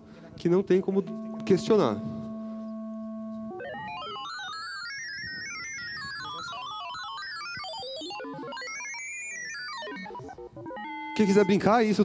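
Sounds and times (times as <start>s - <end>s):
held synthesized tone: 0.4s - 12.0s
fast run of synthesized notes: 0.7s - 11.7s.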